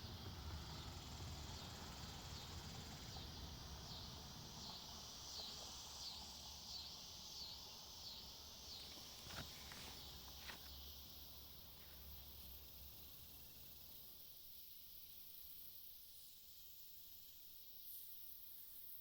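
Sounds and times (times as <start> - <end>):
insect chirping: 0.0 - 19.0
steady high hiss: 0.0 - 19.0.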